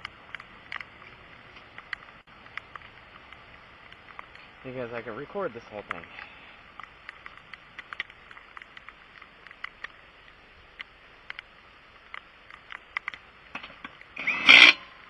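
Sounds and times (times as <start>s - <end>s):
rain hissing: 0.0s - 14.2s
raindrops ticking close by: 0.0s - 14.2s.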